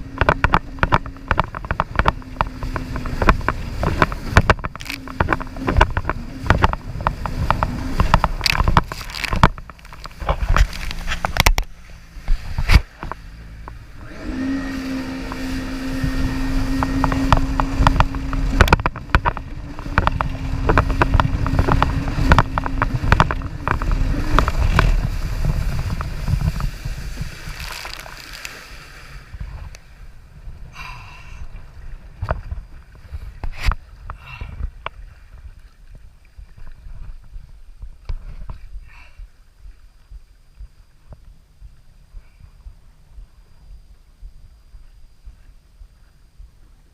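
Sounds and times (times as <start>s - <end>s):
water rushing: 0.0s - 38.9s
jet ski engine humming: 0.0s - 46.9s.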